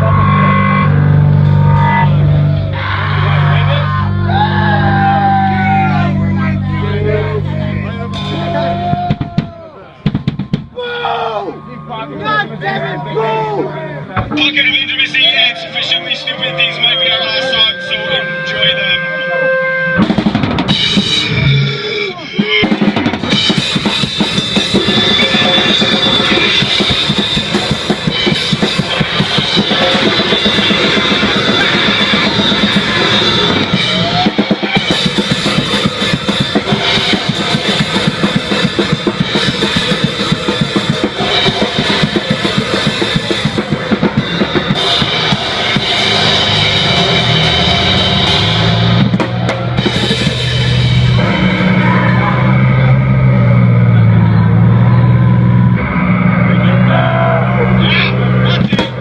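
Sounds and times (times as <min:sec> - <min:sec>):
pounding drum kit: 0:00.0 - 0:11.7, 0:12.3 - 0:59.0
live rock band playing: 0:00.0 - 0:59.0
low bass notes: 0:00.0 - 0:59.0.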